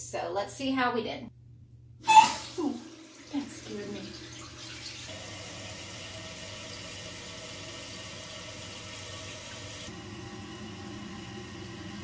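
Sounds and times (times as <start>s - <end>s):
water hissing into toilet tank: 2.0s - 12.0s.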